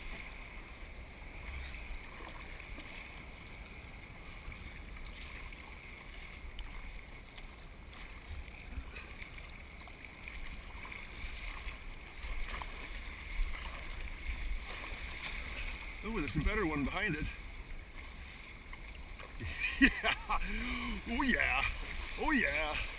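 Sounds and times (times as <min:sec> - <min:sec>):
small water splashes: 0:00.0 - 0:22.9
water wash: 0:00.0 - 0:22.9.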